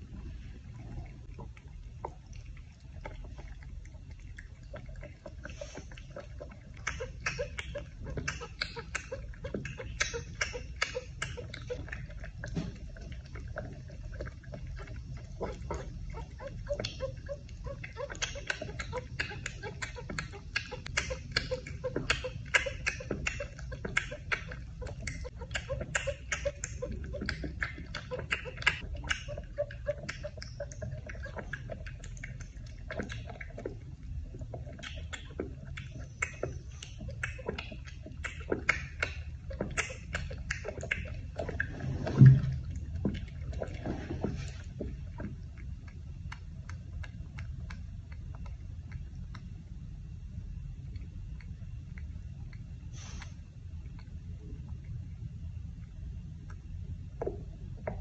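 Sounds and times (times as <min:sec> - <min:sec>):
low steady hum: 0:00.0 - 0:58.0
cat sucking from a bottle: 0:00.2 - 0:54.7.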